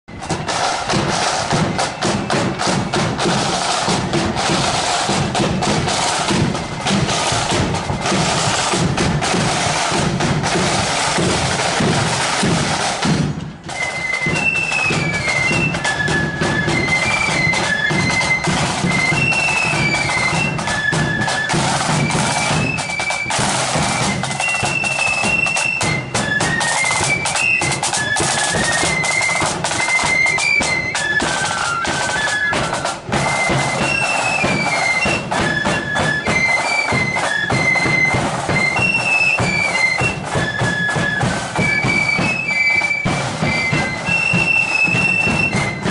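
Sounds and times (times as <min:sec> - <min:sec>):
high flute melody: 0:00.1 - 0:45.9
side drums rattling: 0:00.1 - 0:45.9.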